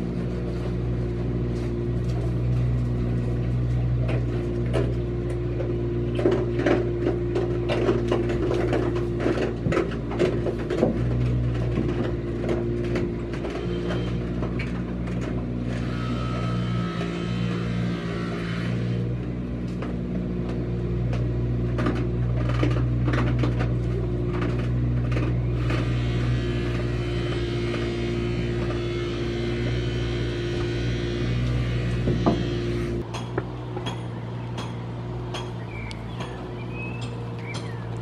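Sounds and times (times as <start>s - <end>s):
steady machine hum: 0.0s - 38.0s.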